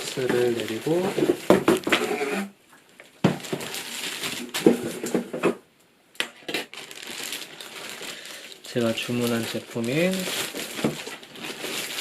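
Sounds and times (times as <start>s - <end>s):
packing rustling and crinkling: 0.0s - 2.1s, 3.2s - 5.4s, 6.5s - 12.0s.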